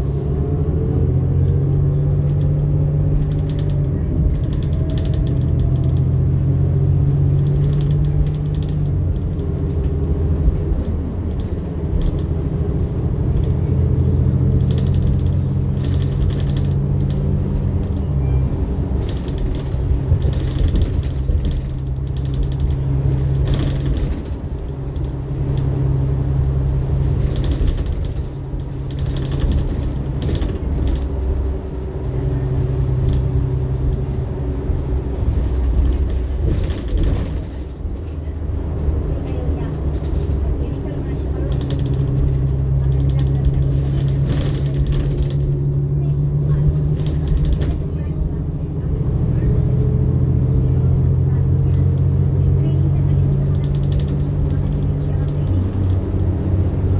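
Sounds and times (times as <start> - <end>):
bus engine droning: 0.0 - 56.9
interior rattling and creaking: 0.0 - 56.9.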